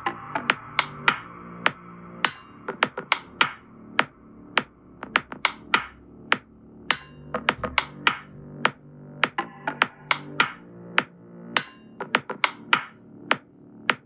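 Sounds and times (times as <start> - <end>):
electronic music through loudspeaker: 0.0 - 14.0.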